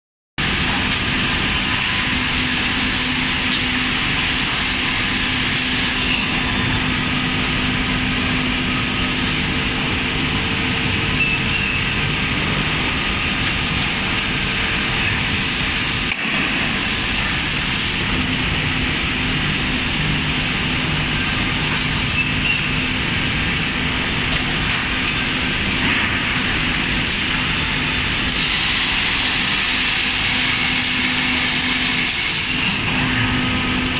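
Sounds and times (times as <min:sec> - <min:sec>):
factory machinery din: 0:00.4 - 0:33.9.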